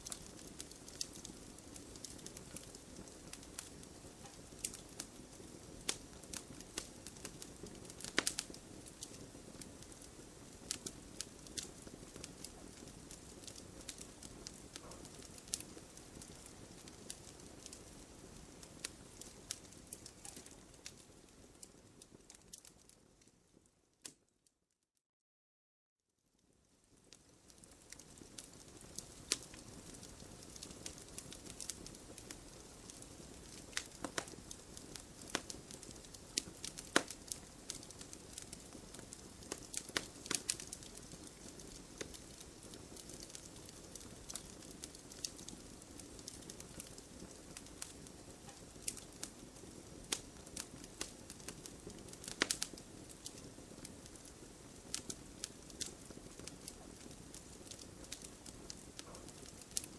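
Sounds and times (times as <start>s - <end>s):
fire crackling and snapping: 0.0s - 24.3s, 26.4s - 59.9s
campfire flame rushing: 4.5s - 21.3s, 27.6s - 59.9s.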